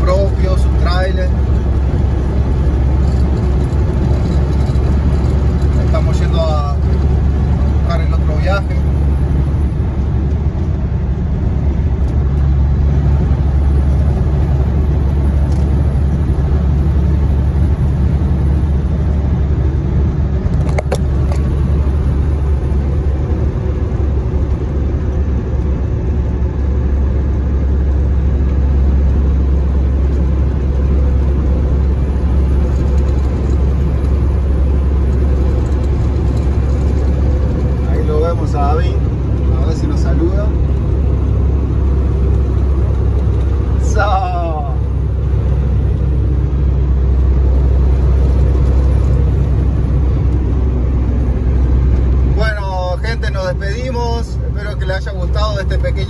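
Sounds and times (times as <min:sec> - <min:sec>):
road noise: 0:00.0 - 0:56.0
truck diesel engine drone: 0:00.0 - 0:56.0.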